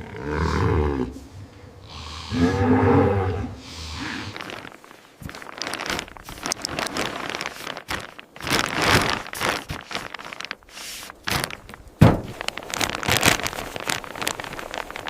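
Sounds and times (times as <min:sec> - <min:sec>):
rustling and crinkling: 0:02.6 - 0:15.0.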